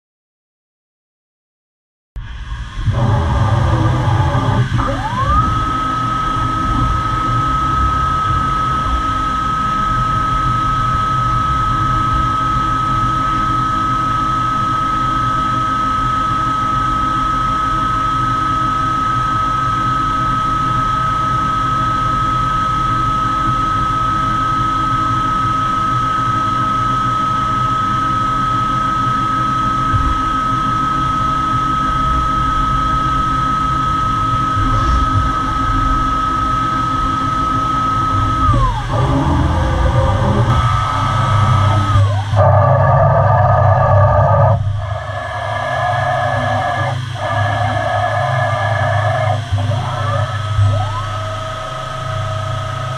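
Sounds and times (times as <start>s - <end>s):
mechanical hum and hiss: 2.2s - 52.9s
spindle high whine: 2.2s - 52.9s.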